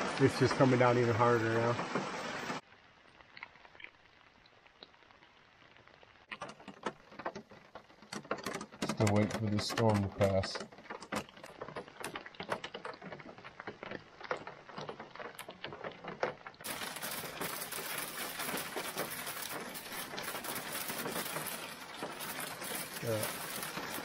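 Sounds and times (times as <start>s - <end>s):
hail and rain on canoe hull: 0.0s - 24.0s.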